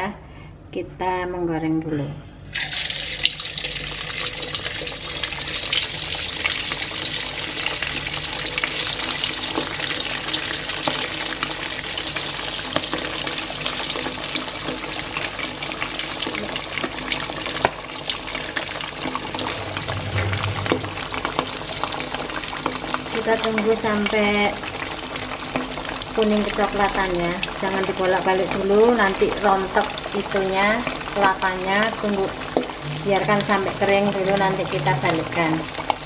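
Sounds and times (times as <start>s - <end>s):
food deep-frying in oil: 2.5s - 36.0s.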